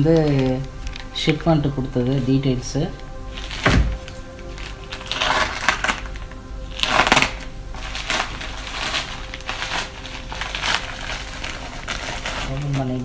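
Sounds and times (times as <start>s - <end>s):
plastic mailer bag crinkling: 0.0s - 1.9s, 2.6s - 13.0s.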